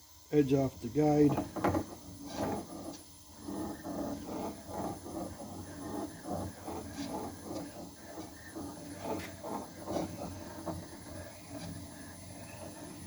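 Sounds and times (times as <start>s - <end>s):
cutter scraping metal: 1.2s - 13.0s.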